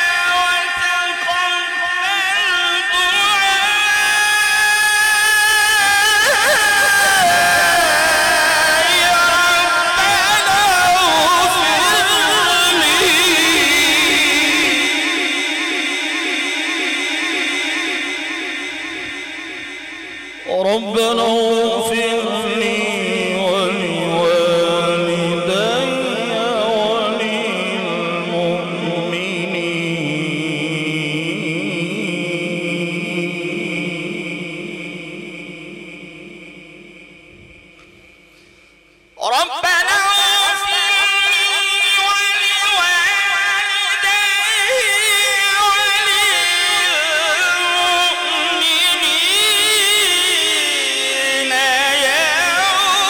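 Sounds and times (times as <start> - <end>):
man reciting melodically: 0.0 - 53.0.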